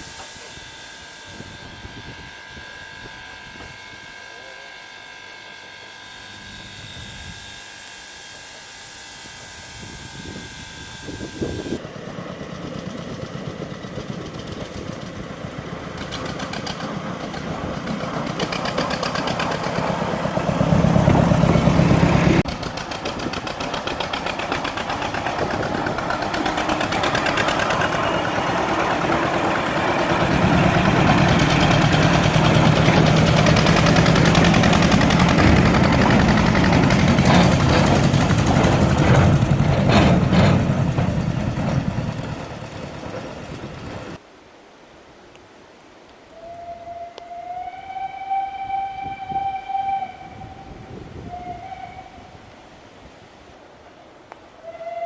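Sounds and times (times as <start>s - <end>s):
locomotive working: 0.0s - 44.2s, 47.4s - 52.9s.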